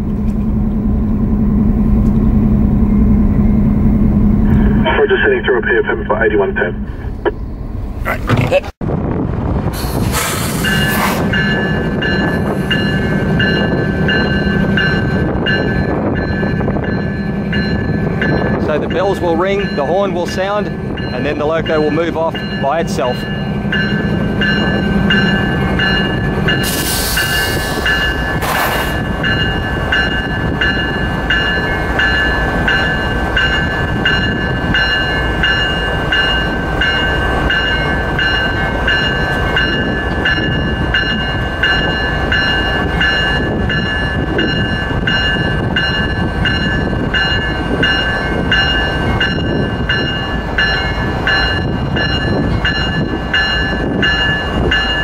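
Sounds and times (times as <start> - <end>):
low locomotive rumble: 0.0 - 55.0
locomotive warning bell ringing: 10.6 - 55.0.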